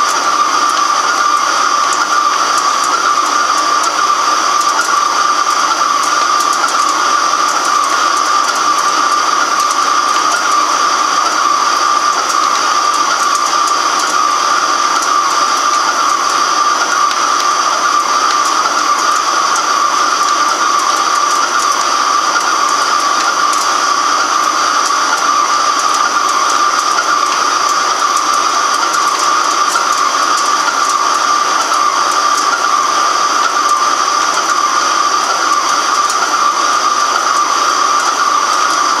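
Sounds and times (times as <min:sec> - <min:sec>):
lathe cutting metal: 0:00.0 - 0:39.0.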